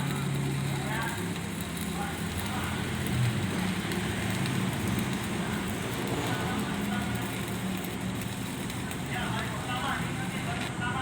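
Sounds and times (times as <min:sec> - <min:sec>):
welding arc crackling hiss: 0:00.0 - 0:11.0.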